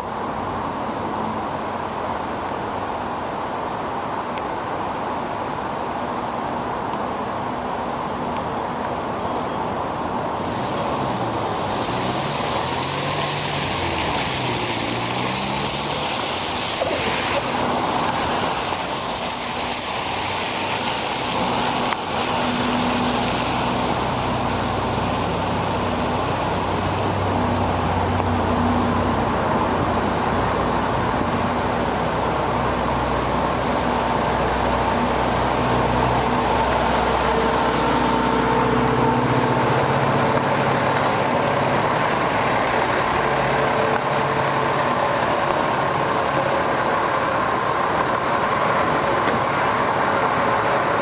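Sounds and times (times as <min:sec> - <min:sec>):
tyre and wind hiss: 0:00.0 - 0:51.0
vehicle engine: 0:10.2 - 0:51.0.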